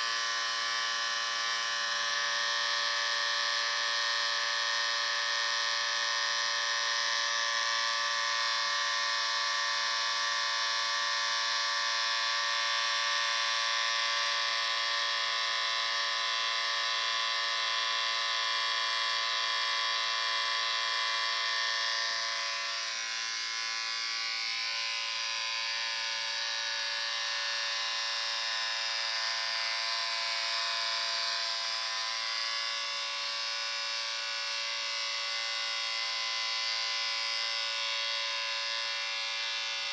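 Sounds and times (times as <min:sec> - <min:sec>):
electric shaver buzzing: 0:00.0 - 0:39.9.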